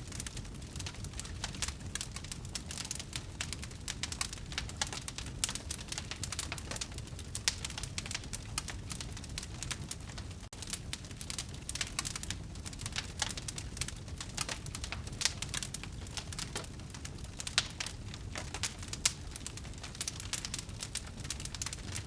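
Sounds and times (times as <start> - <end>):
low rush of flames: 0.0 - 22.0
wood fire crackling: 0.0 - 22.0.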